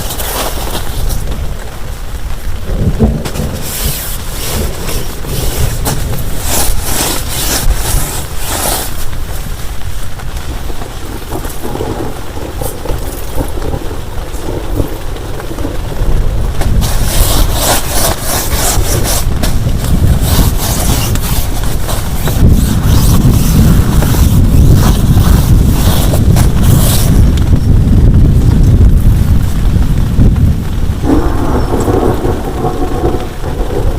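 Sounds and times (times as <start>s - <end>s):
crackling spatter: 0.0s - 33.9s
heavy rain pouring: 0.0s - 33.9s
thunder rumble: 0.0s - 33.9s.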